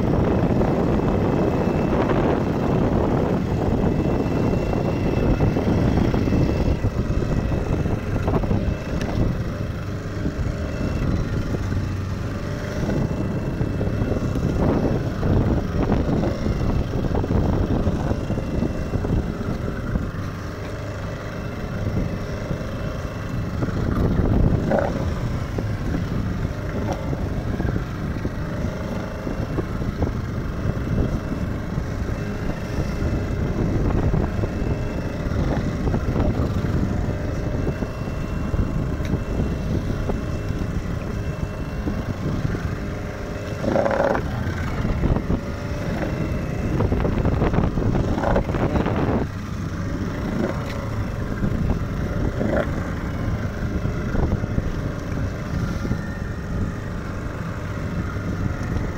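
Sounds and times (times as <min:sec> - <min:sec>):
boat engine running: 0:00.0 - 0:58.9
wind buffeting microphone: 0:00.0 - 0:58.9.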